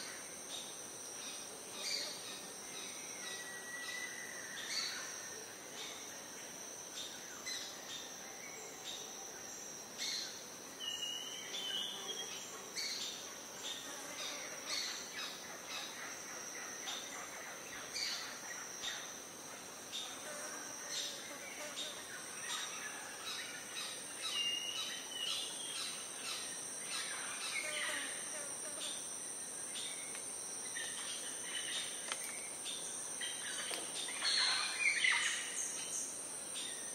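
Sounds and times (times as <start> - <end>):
high-pitched insect drone: 0.0 - 36.9.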